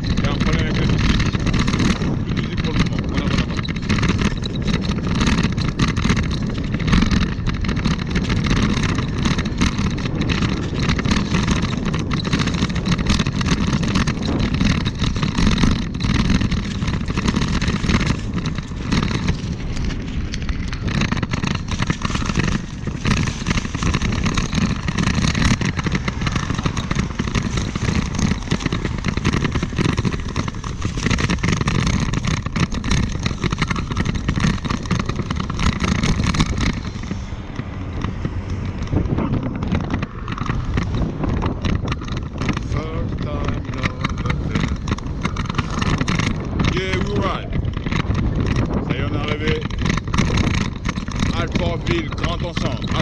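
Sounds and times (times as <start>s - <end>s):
low rumble of wheels on pavement: 0.0s - 53.0s
wind buffeting microphone: 0.0s - 53.0s.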